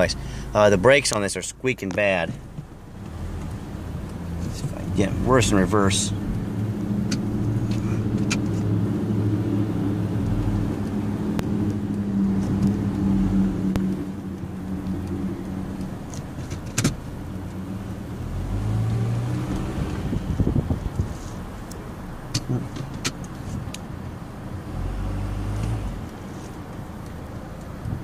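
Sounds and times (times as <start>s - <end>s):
car interior low hum: 0.0s - 28.0s.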